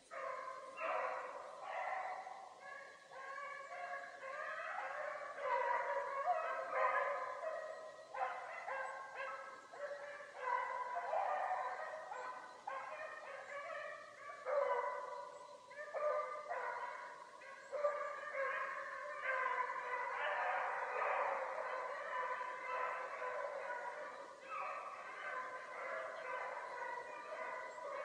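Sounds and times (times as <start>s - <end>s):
dogs baying in chorus: 0.0s - 28.0s.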